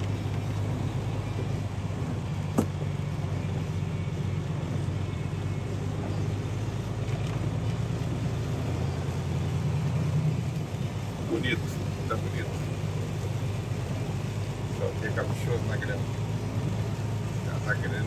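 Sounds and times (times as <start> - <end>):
road and rain hiss: 0.0 - 18.0
truck engine running: 0.0 - 18.0.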